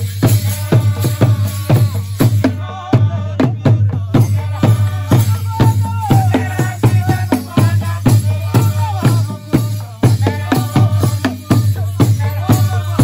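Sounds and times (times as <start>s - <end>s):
rattle shaking: 0.0s - 2.5s, 4.3s - 13.0s
drums beating fast: 0.0s - 13.0s
voices singing: 0.0s - 13.0s.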